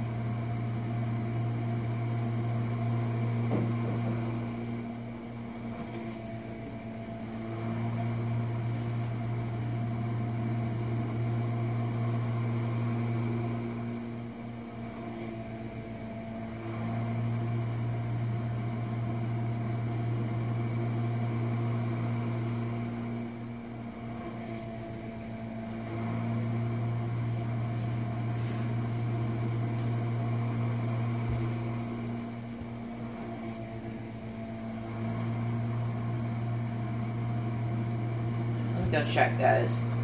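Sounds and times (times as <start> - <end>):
dishwasher motor hum: 0.0 - 40.0.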